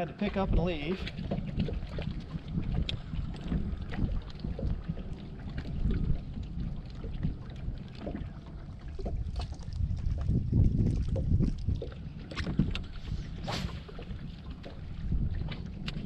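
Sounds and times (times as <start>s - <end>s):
water slapping boat hull: 0.0s - 16.0s
wind buffeting microphone: 0.0s - 16.0s.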